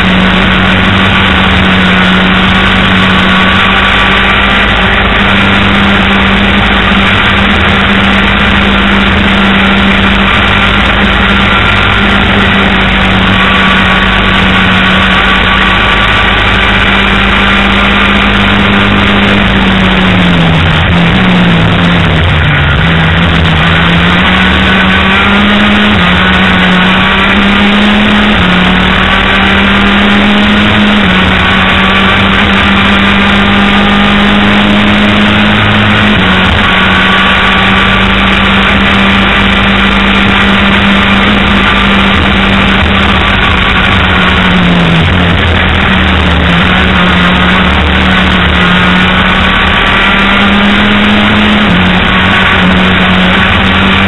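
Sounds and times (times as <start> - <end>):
kart engine at high revs: 0.0 - 54.0.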